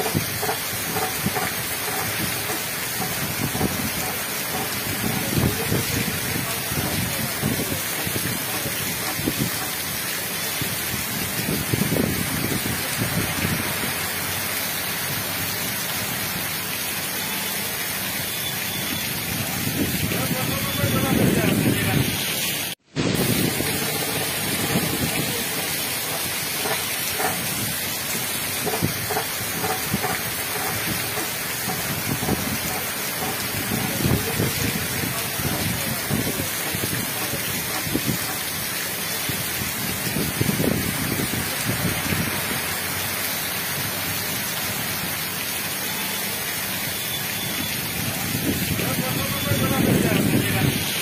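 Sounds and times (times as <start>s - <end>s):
heavy rain pouring on street: 0.0s - 51.0s.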